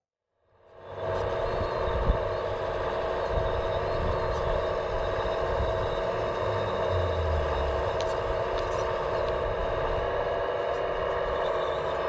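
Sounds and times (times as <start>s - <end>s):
electric motors whining: 0.6s - 12.0s
low rumble: 0.9s - 11.4s.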